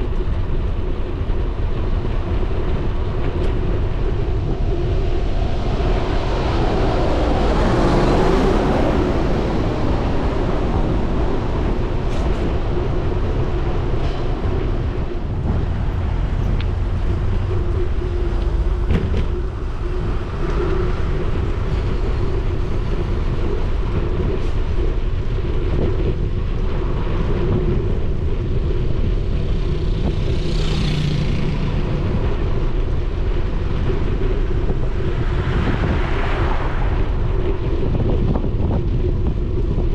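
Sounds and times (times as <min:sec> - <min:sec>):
road traffic: 0:00.0 - 0:39.9
vehicles passing: 0:00.0 - 0:39.9
wind rumble on microphone: 0:00.0 - 0:39.9.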